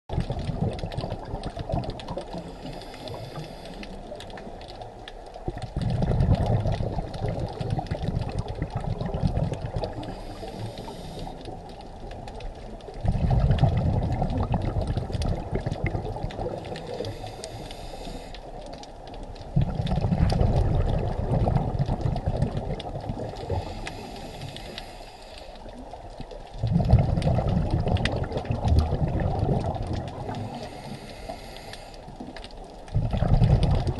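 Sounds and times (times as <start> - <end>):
crackling hiss: 0.1 - 33.9
underwater bubbles gurgling: 0.1 - 33.9.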